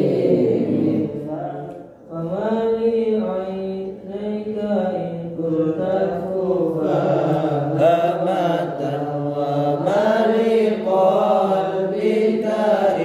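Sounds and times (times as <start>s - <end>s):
men chanting in unison: 2.1s - 13.0s.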